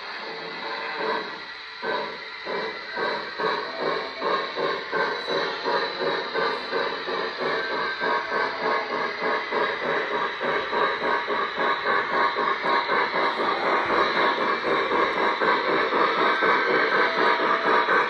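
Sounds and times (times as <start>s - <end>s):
model steam locomotive chuffing: 0.0s - 18.0s
model train running on track: 0.0s - 18.0s.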